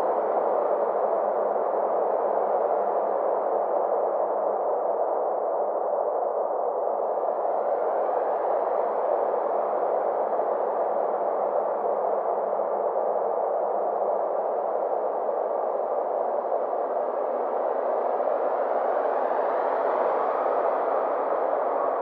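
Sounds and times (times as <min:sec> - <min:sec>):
synthesized muffled hiss drone: 0:00.0 - 0:22.0.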